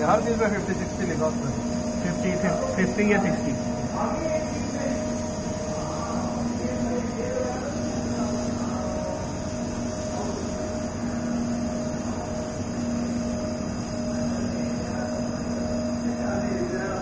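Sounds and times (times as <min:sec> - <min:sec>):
constant hum: 0:00.0 - 0:17.0
machinery droning: 0:00.0 - 0:17.0.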